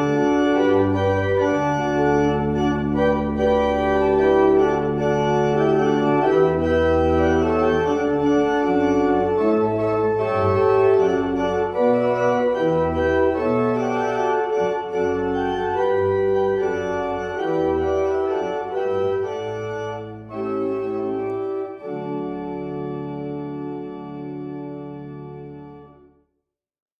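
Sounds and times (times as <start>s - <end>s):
organ music: 0.0s - 26.2s.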